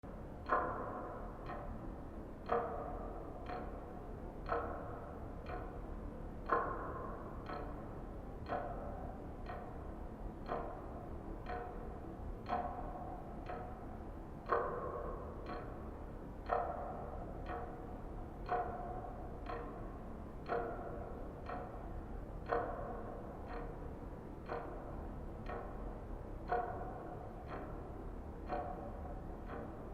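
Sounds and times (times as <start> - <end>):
clock ticking: 0.1 - 29.9.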